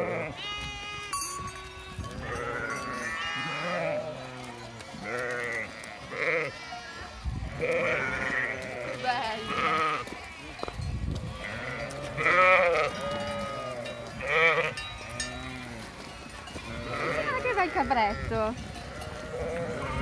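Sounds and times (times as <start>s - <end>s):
sheep and lambs bleating: 0.0s - 20.0s.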